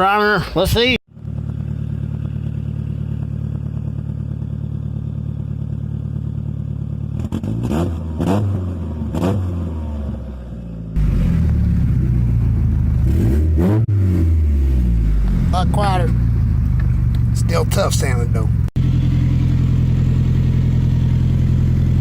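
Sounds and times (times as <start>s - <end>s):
engine idling and revving: 1.1s - 22.0s.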